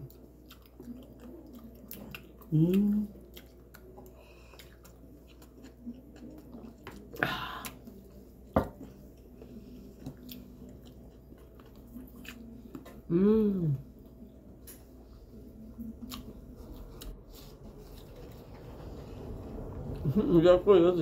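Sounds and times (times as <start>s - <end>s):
people chewing: 0.0s - 20.3s.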